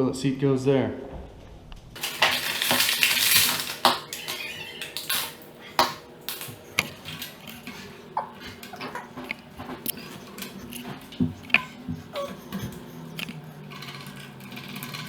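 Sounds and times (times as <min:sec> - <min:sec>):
hard objects clattering and knocking: 0:02.0 - 0:15.0.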